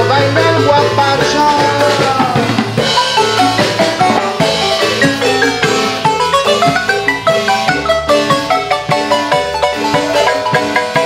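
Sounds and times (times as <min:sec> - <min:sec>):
bass guitar: 0:00.0 - 0:11.0
drums: 0:00.0 - 0:11.0
marimba played with mallets: 0:00.0 - 0:11.0.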